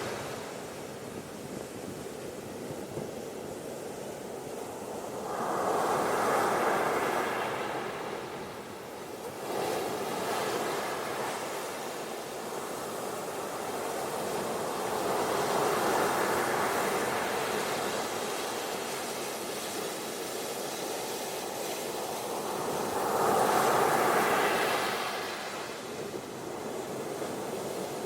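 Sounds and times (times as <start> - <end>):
ocean waves washing on beach: 0.0 - 28.0.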